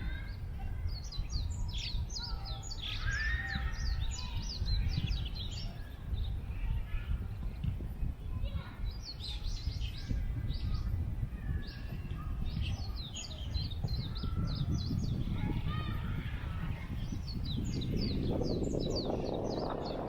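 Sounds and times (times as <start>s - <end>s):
small birds chirping: 0.0s - 20.0s
wind rumble on microphone: 0.0s - 20.0s.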